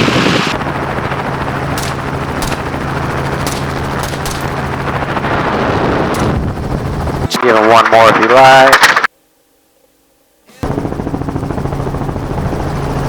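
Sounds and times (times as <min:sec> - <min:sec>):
helicopter in flight: 0:00.0 - 0:09.1, 0:10.6 - 0:13.0.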